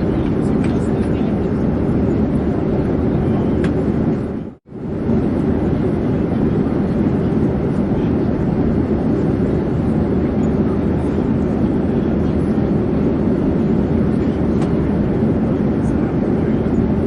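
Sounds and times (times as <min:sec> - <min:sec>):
airplane engines rumbling: 0:00.0 - 0:17.0.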